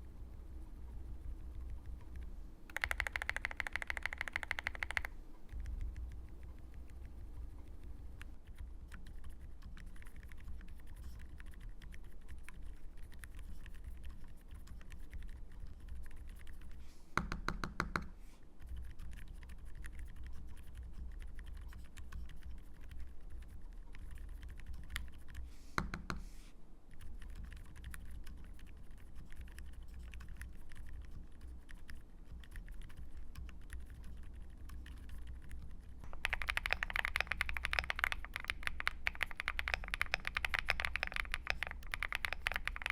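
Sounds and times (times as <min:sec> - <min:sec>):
mechanical keyboard typing: 0:01.5 - 0:16.7, 0:17.5 - 0:26.0, 0:27.0 - 0:42.9.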